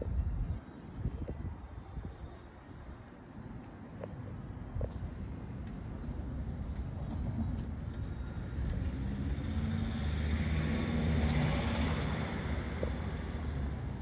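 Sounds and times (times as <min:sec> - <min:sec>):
tyre and road noise: 0:00.0 - 0:14.0.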